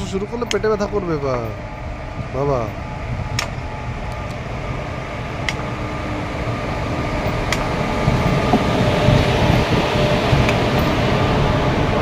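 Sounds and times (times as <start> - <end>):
locomotive blowers humming: 0.0 - 12.0.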